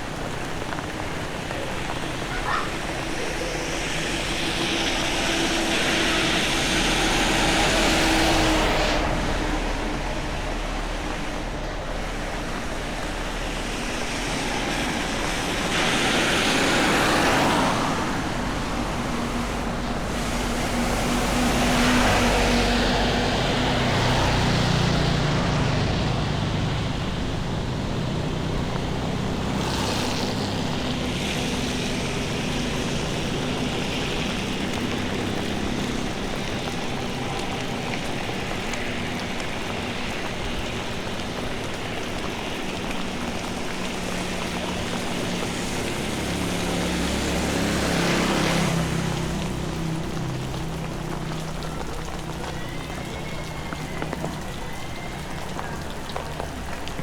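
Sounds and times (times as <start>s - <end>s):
low engine hum: 0.0s - 57.0s
rain: 0.0s - 57.0s
running water: 0.0s - 57.0s.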